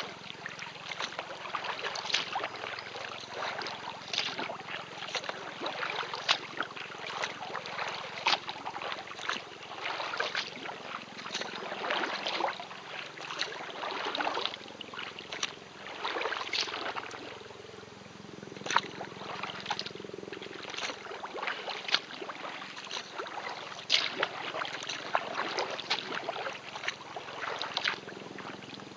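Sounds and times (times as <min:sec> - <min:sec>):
water dripping off paddle: 0:00.0 - 0:17.4, 0:18.6 - 0:28.9
kayak paddle splashing: 0:00.0 - 0:28.9.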